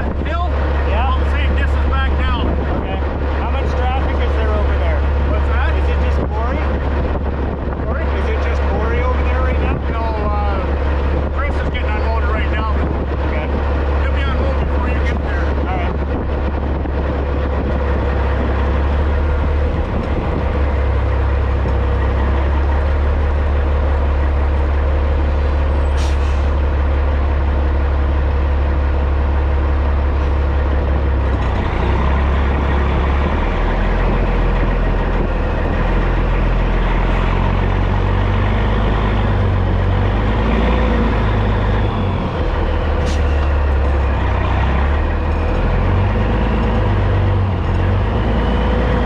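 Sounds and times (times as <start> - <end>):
diesel truck engine at low revs: 0.0 - 49.0.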